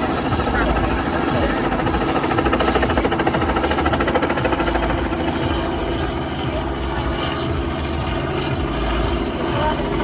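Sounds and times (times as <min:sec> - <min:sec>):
helicopter rotor chopping: 0:00.0 - 0:10.0.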